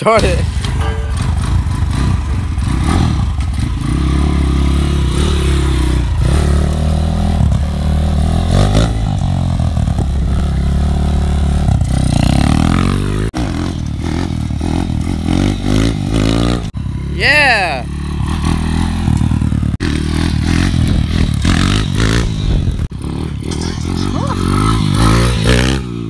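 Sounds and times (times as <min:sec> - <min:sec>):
pit bike engine revving: 0:00.2 - 0:26.0.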